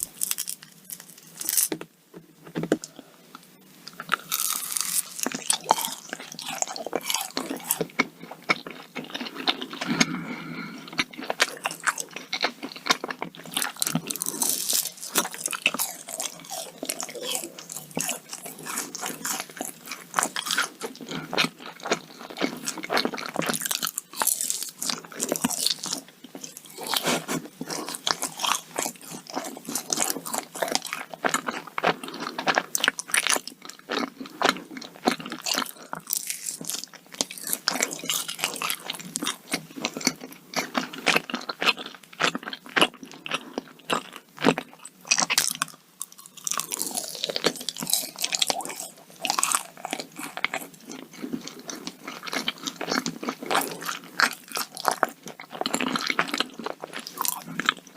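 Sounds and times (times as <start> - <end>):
person chewing crunchy cookies: 0.0 - 57.9.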